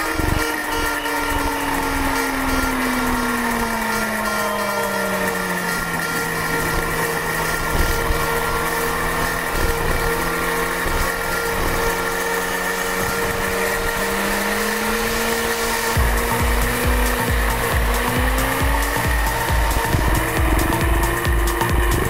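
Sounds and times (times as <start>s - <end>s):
motorcycle engine at high revs: 0.0s - 22.0s
thumping music beat: 0.0s - 22.0s.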